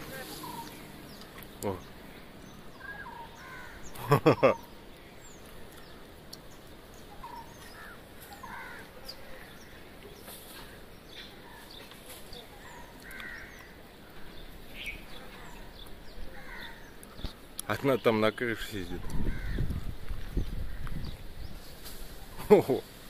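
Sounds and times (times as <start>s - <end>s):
faint bird calls and chirps: 0.0s - 22.8s.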